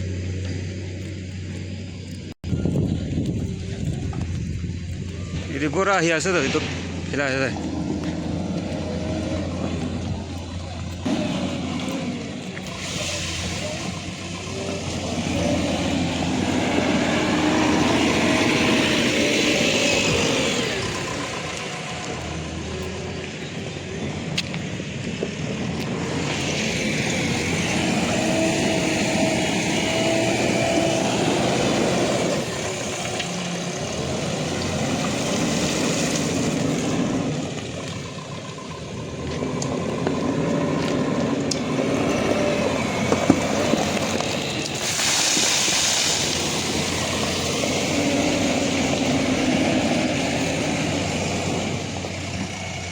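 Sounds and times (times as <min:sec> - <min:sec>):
diesel engines under load: 0:00.0 - 0:52.9.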